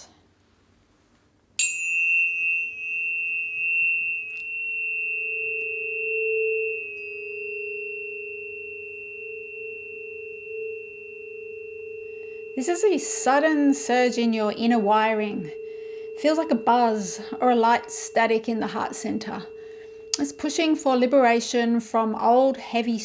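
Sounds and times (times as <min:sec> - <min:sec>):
tuning fork ringing: 0:01.6 - 0:22.9.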